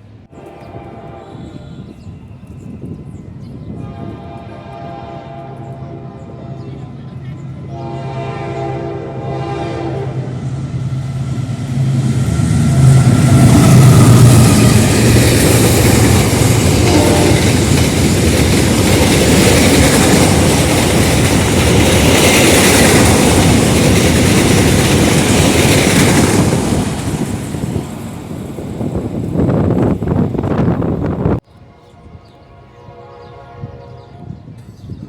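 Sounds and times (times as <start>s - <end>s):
train passing at speed: 0.0s - 35.0s.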